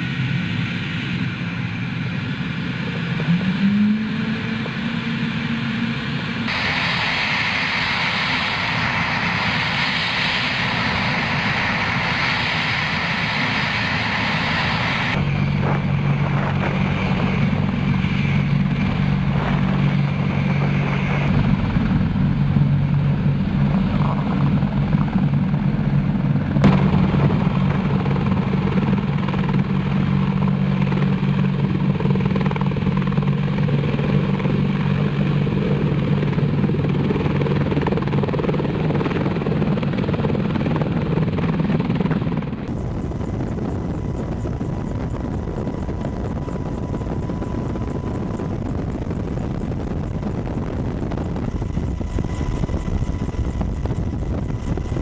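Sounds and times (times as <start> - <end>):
helicopter rotor hum: 0.0 - 55.0
helicopter turbine hiss: 0.0 - 55.0.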